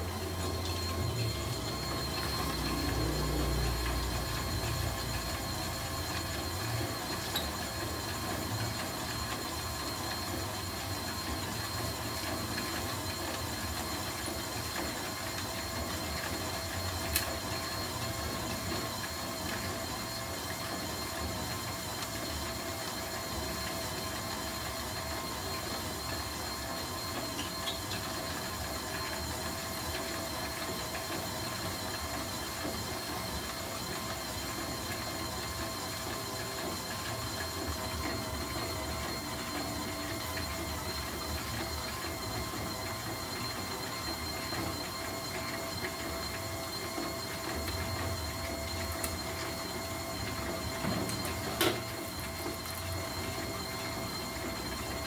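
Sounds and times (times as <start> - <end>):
popcorn machine motor whining: 0.0 - 55.0.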